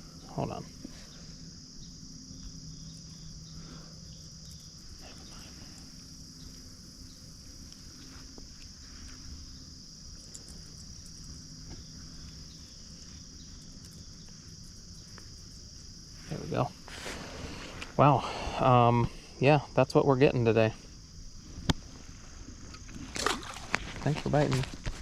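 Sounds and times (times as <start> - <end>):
insects buzzing drone: 0.0 - 25.0.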